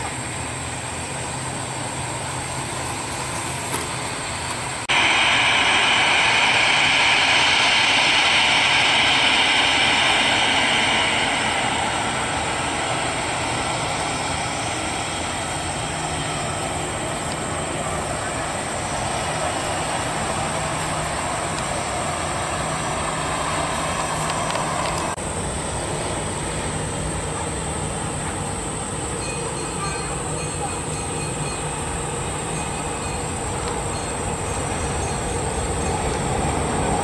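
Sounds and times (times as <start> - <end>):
jet engine whine: 0.0 - 37.0
jet engines at taxi power: 0.0 - 37.0.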